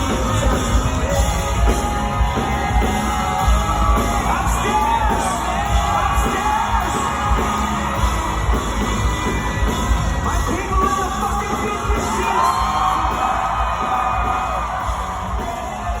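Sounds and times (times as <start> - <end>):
crowd yelling: 0.0 - 16.0
drums: 0.0 - 16.0.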